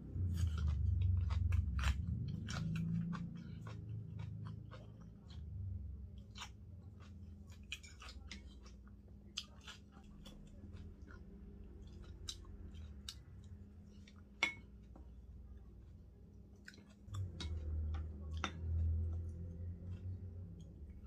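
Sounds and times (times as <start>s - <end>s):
person chewing: 0.0s - 15.1s, 16.5s - 21.0s
low steady hum: 0.0s - 21.0s.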